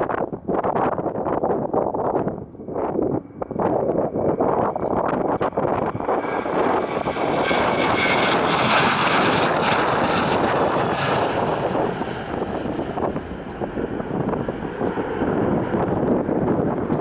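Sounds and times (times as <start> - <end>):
airliner engines passing: 0.0 - 17.0.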